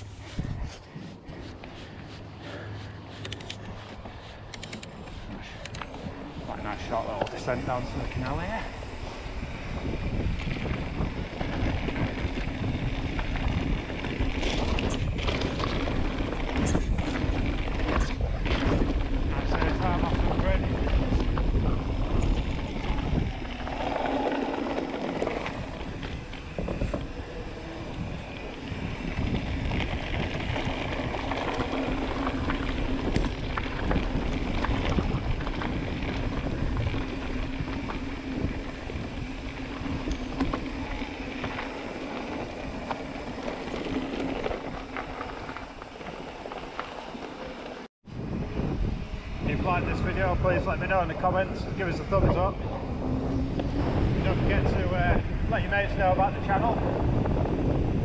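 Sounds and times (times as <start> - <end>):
bike clicks and rattles: 0.0 - 58.0
wind noise on microphone: 0.0 - 58.0
bike tyres rolling over gravel: 3.7 - 58.0.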